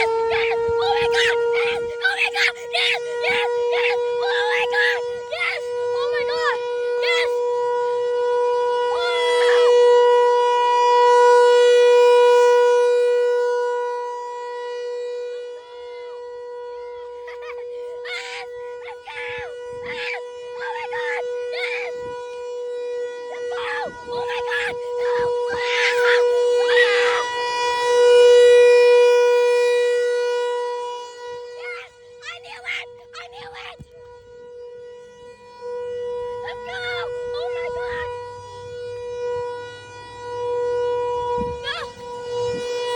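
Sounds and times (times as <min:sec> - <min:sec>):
warning siren wailing: 0:00.0 - 0:42.9.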